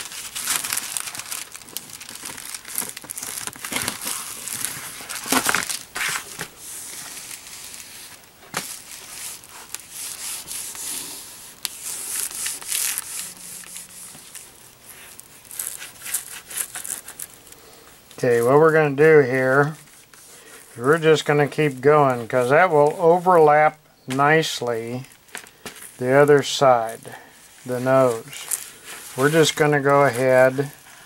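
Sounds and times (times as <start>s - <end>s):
plastic film crinkling: 0.0s - 31.0s.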